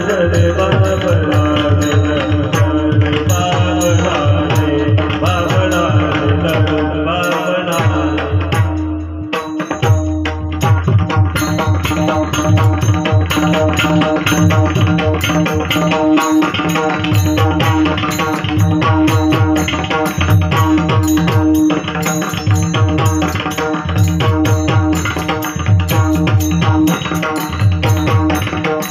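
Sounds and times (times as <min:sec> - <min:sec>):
hand drum fast rhythm: 0:00.0 - 0:28.9.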